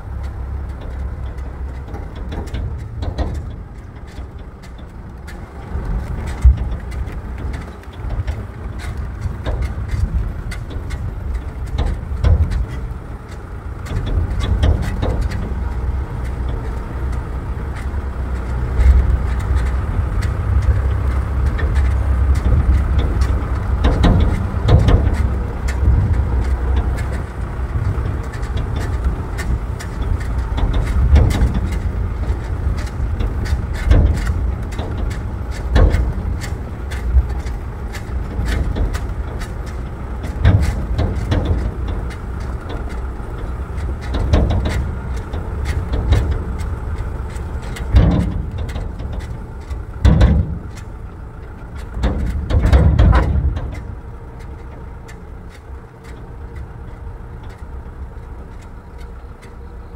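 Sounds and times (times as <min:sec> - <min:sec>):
vehicle jolts and knocks: 0:00.0 - 0:59.9
vehicle rumbling on rough road: 0:00.0 - 0:59.9.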